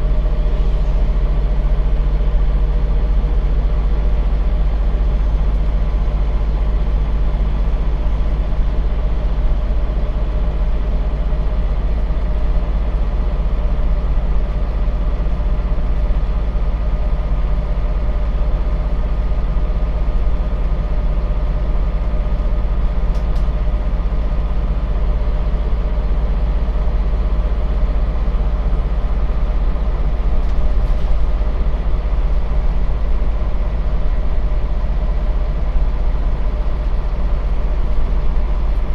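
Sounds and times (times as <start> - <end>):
bus engine rumbling: 0.0 - 38.9.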